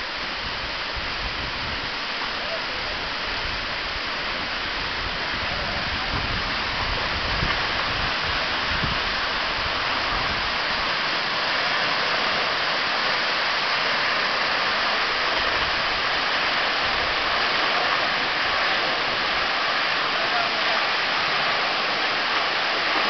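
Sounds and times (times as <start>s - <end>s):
waterfall hissing: 0.0s - 23.0s.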